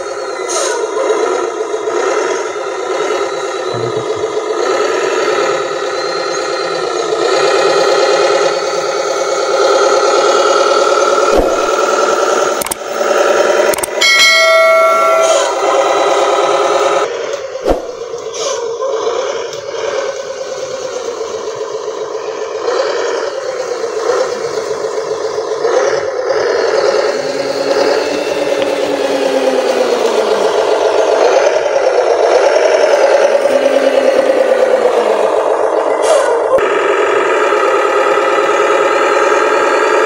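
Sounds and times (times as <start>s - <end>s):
model truck motor whine: 0.0s - 14.0s, 15.5s - 40.0s.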